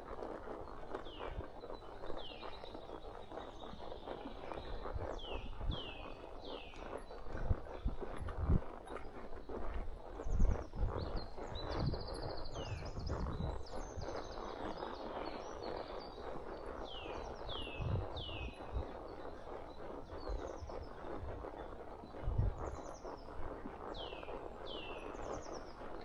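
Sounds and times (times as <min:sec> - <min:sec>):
horse hooves on trail: 0:00.0 - 0:26.0
outdoor rustle: 0:00.0 - 0:26.0
songbirds calling: 0:00.0 - 0:26.0.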